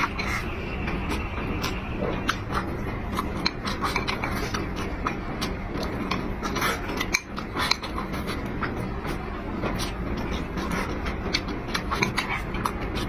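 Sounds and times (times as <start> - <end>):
low background rumble: 0.0 - 13.0
wet chewing and crunching: 0.0 - 13.0.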